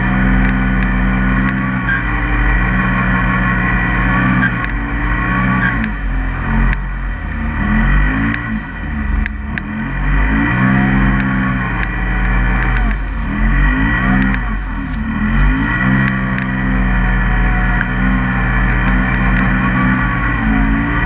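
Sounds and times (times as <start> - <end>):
engine revving high: 0.0 - 21.0.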